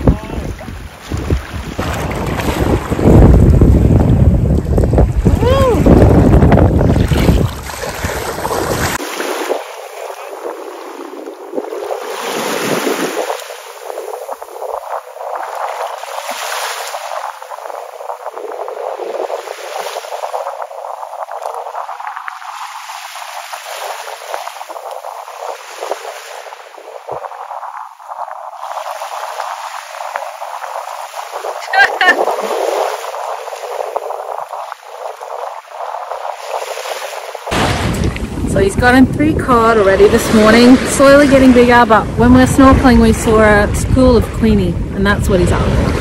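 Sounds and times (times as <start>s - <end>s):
small waves lapping: 0.0s - 39.0s
wind buffeting microphone: 0.0s - 46.0s.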